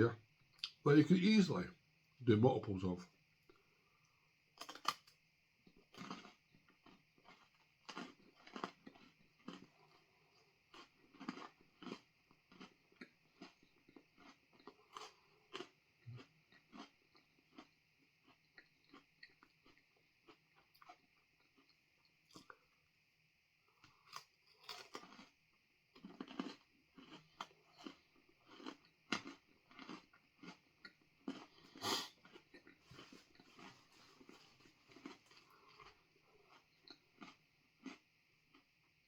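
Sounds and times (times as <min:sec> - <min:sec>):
crunching and chewing: 0:04.6 - 0:22.9, 0:23.6 - 0:38.8.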